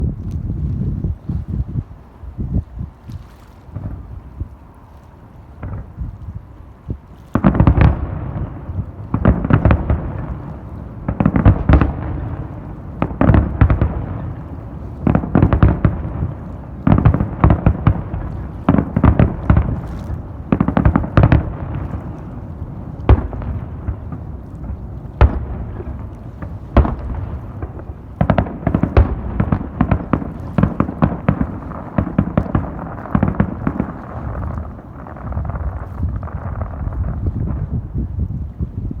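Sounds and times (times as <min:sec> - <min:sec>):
fireworks bangs and crackling: 0:02.9 - 0:39.0
low rumble: 0:07.7 - 0:39.0.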